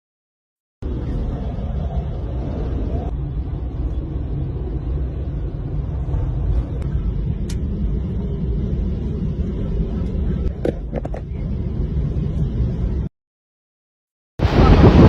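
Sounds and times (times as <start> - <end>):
storm wind on microphone: 0.8 - 13.1, 14.4 - 15.0.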